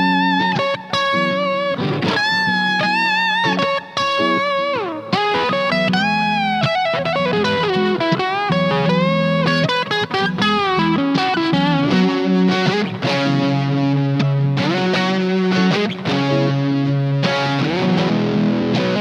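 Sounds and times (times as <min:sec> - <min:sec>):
overdriven electric guitar: 0:00.0 - 0:19.0.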